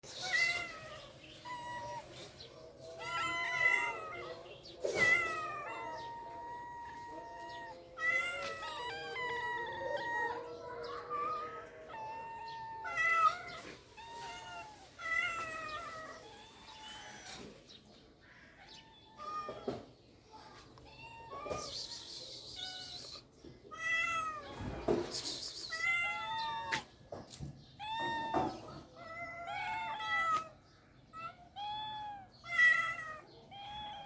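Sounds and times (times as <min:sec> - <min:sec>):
cats meowing: 0:00.0 - 0:34.0.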